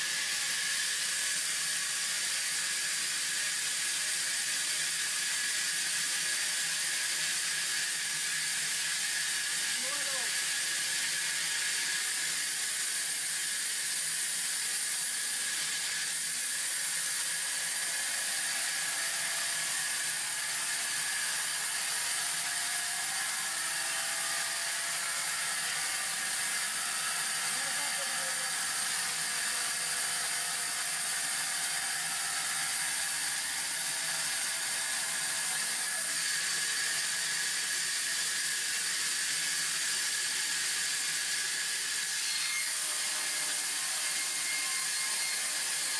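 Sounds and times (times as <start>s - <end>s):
band saw sawing through log: 0.0s - 45.9s.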